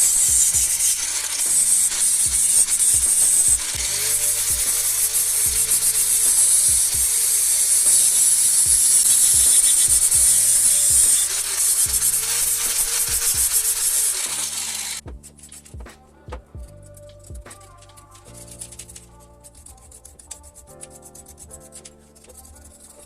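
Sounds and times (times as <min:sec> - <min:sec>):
abrasive rubbing on bicycle part: 0:00.0 - 0:16.1, 0:16.9 - 0:23.0
quiet background music: 0:00.0 - 0:23.0.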